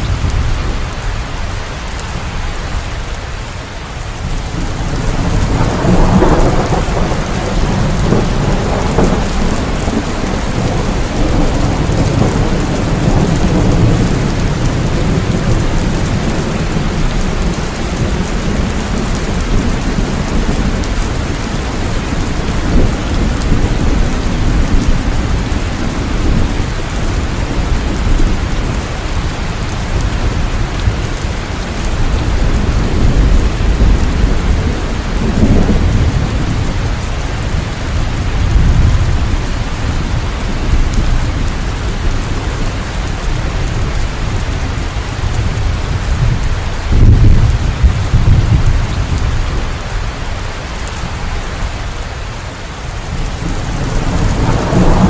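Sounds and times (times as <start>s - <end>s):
low rumble of thunder: 0.0s - 2.6s, 4.2s - 52.0s, 52.9s - 55.0s
heavy rain: 0.0s - 55.0s.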